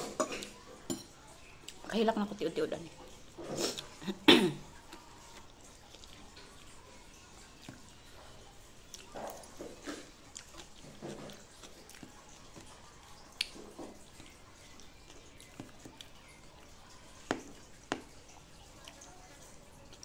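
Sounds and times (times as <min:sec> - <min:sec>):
chewing and mouth sounds: 0:00.1 - 0:01.9, 0:02.9 - 0:20.0.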